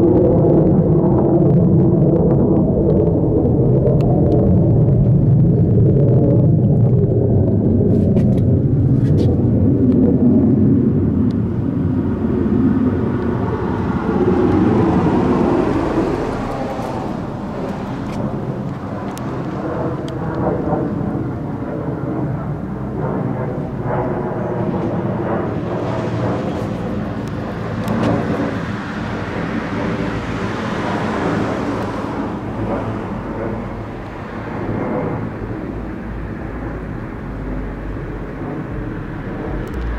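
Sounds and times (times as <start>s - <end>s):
aircraft engine rumble: 0.0s - 39.9s.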